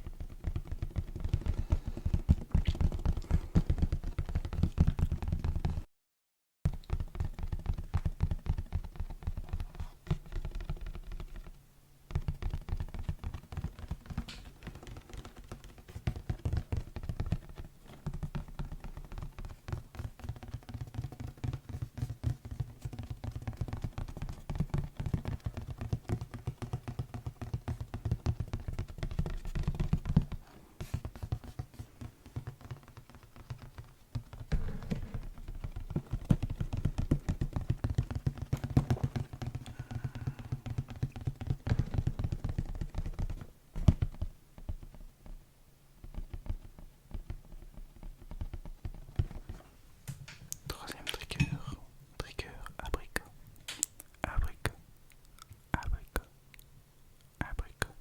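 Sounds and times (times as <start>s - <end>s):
rapid close tapping: 0.0s - 5.9s, 6.7s - 45.4s, 46.0s - 56.6s.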